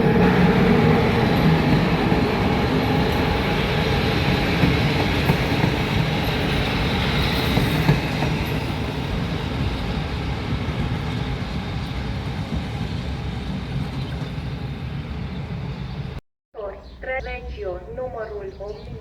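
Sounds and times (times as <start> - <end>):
train rumbling on rails: 0.0 - 16.2.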